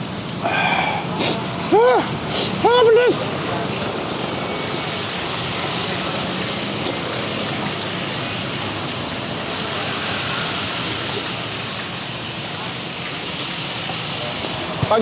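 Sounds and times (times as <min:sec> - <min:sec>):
passing traffic: 0:00.0 - 0:15.0
street ambience hiss: 0:00.0 - 0:15.0.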